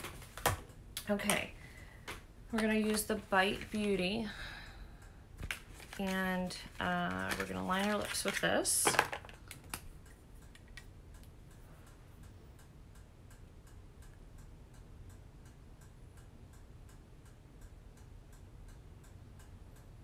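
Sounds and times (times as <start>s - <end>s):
low room hum: 0.0s - 20.0s
faint ticking: 0.7s - 7.4s, 9.4s - 20.0s.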